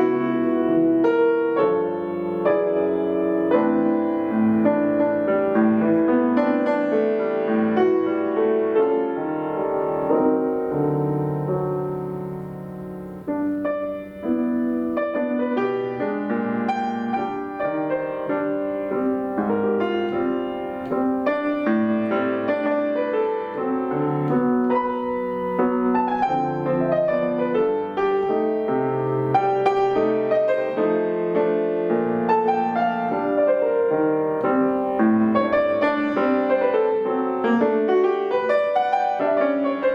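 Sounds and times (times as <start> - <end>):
solo piano playing chords: 0.0 - 39.9.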